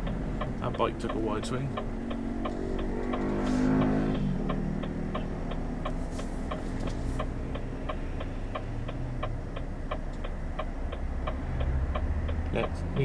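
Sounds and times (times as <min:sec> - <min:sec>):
diesel engine idling: 0:00.0 - 0:13.0
turn signal ticking: 0:00.0 - 0:13.0.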